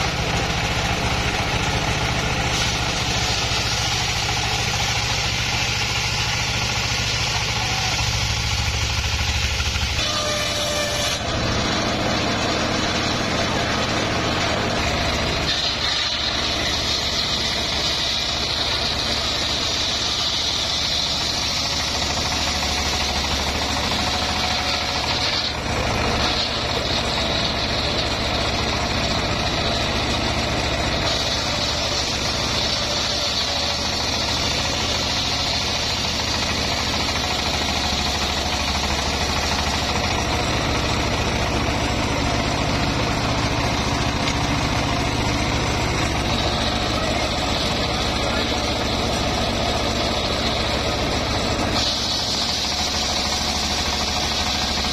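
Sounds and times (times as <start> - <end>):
circular saw cutting whine: 0.0 - 54.9
engine low drone: 0.0 - 54.9.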